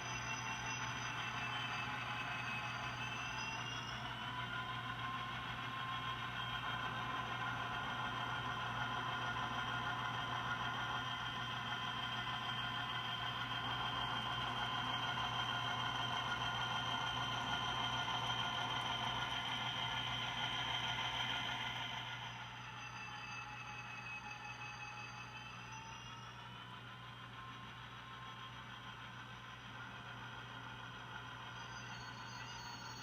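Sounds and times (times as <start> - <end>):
model train motor whine: 0.0 - 33.0.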